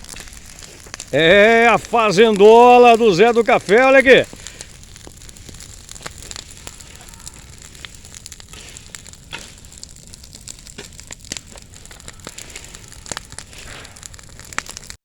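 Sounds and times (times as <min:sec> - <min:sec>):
bonfire crackling and popping: 0:00.0 - 0:15.0
fire hissing: 0:00.0 - 0:15.0.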